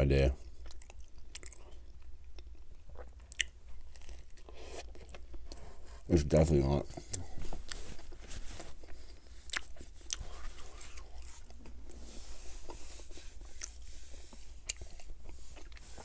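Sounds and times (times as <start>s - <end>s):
chewing burger: 0.4s - 6.1s, 6.8s - 16.0s.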